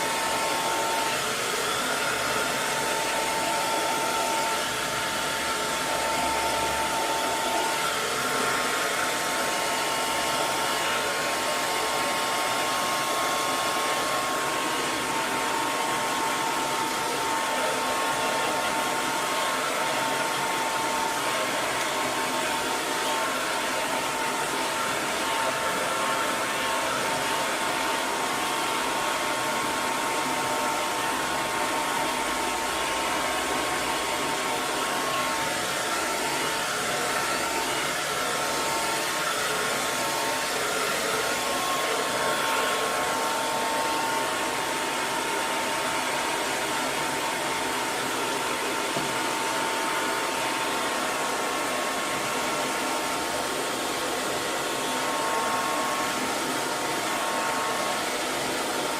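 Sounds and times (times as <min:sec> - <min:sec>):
hair dryer blowing air: 0:00.0 - 0:58.9.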